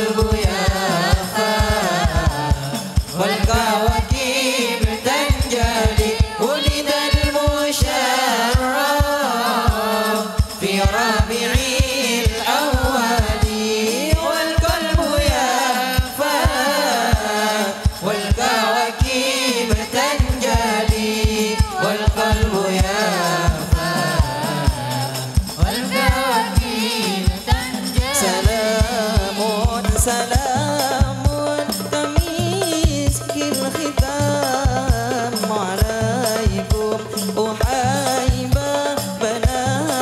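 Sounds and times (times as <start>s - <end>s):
frame drums beating: 0.0s - 40.0s
men singing devotional chant: 0.0s - 40.0s.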